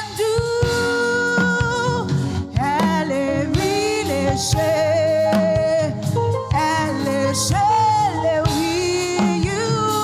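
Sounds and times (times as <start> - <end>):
band accompaniment: 0.0 - 10.0
drum kit: 0.0 - 10.0.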